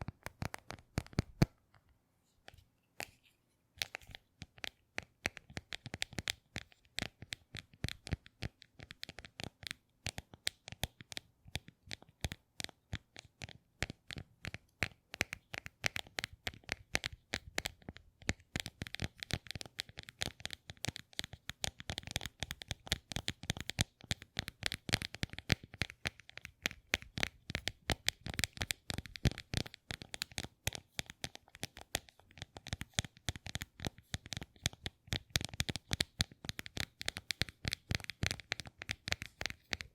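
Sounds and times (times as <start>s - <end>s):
crisp clicks and crackles: 0.0s - 39.9s.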